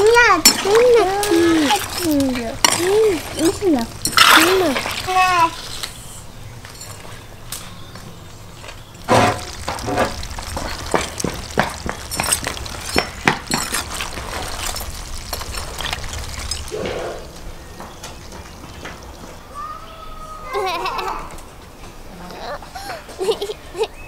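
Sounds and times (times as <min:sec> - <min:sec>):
water boiling: 0:00.0 - 0:19.7.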